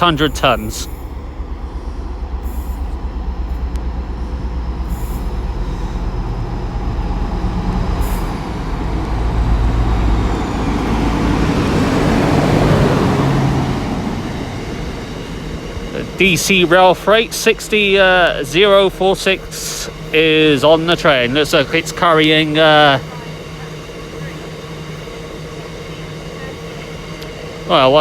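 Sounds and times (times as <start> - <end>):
locomotive engine drone: 0.0 - 28.0
rail rumble: 0.0 - 28.0.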